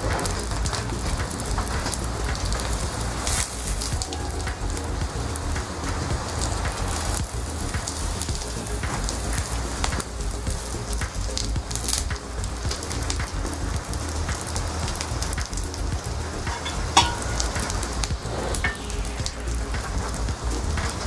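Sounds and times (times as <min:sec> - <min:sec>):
fire popping sharply: 0:00.0 - 0:21.0
wood fire crackling: 0:00.0 - 0:21.0.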